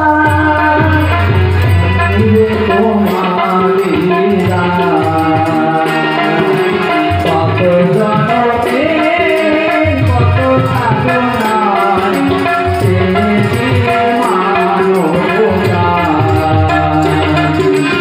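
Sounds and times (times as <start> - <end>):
hand drum: 0.0 - 18.0
instrumental accompaniment: 0.0 - 18.0
man singing into a microphone: 0.0 - 18.0.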